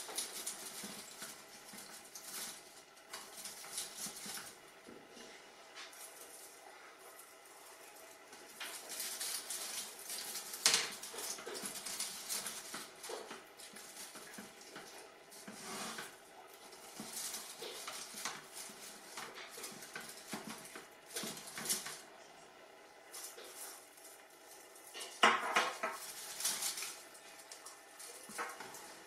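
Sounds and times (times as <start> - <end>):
fir sprigs rustling against wicker: 0.0 - 29.0.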